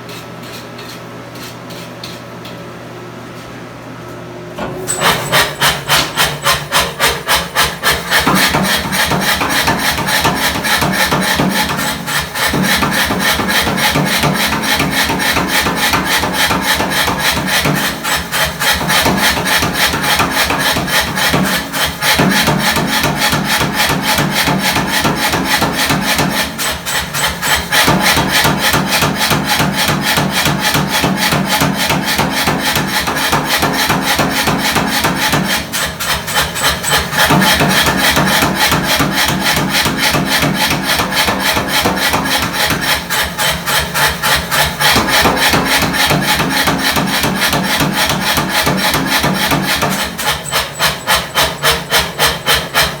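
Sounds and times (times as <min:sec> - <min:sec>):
fast hammering on hot steel: 0:04.9 - 0:53.0.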